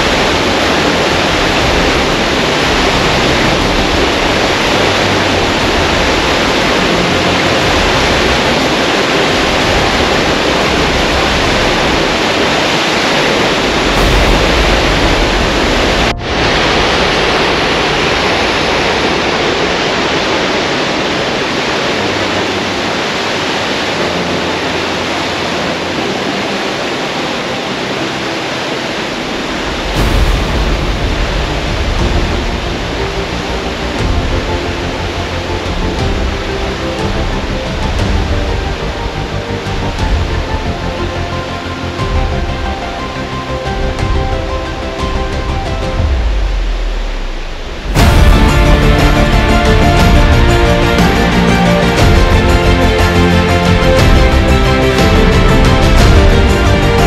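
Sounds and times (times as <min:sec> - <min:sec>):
water rushing over a weir: 0:00.0 - 0:57.0.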